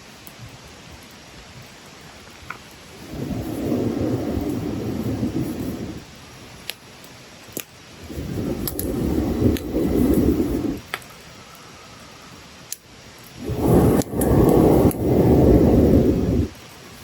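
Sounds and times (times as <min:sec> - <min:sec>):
campfire crackling pops: 0:00.0 - 0:17.0
low rumbling fire surges: 0:00.0 - 0:17.0.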